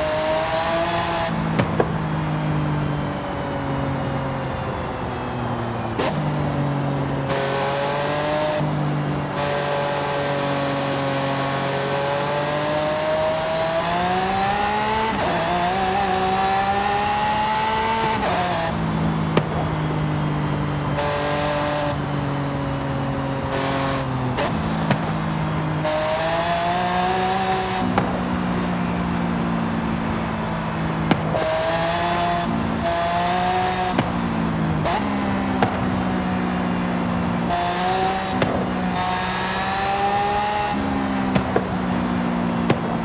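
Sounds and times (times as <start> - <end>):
car engine and exhaust driving: 0.0 - 43.0.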